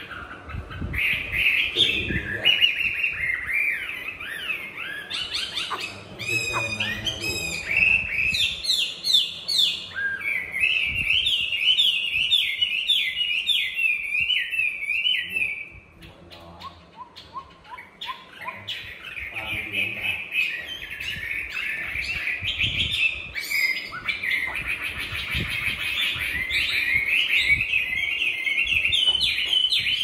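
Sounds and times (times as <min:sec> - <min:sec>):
songbird whistling and trilling: 0:00.0 - 0:19.6, 0:20.3 - 0:30.0.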